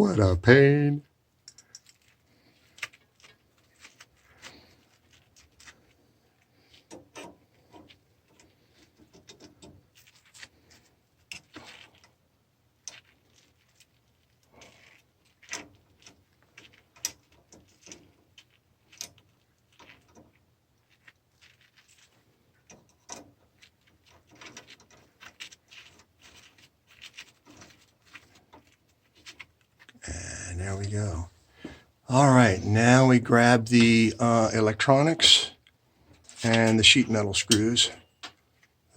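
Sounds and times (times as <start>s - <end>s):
small parts clicking and scraping: 1.4s - 12.2s, 12.8s - 30.0s, 35.3s - 38.9s.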